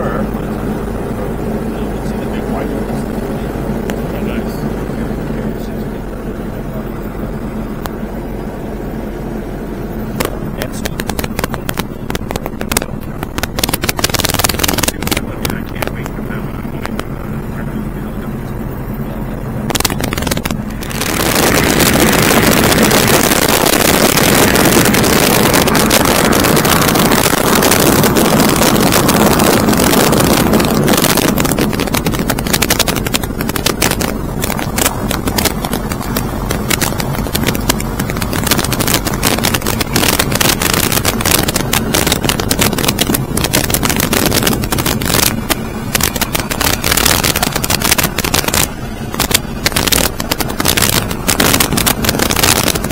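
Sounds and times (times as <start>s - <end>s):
crackling wind buffets: 0.0s - 52.9s
low steady hum: 0.0s - 52.9s
wind roaring over microphone: 0.0s - 52.9s.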